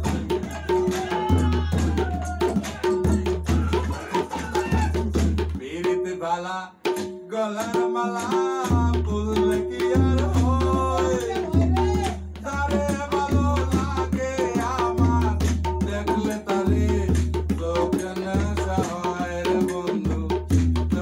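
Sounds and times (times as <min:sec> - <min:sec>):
tabla drumming: 0:00.0 - 0:21.0.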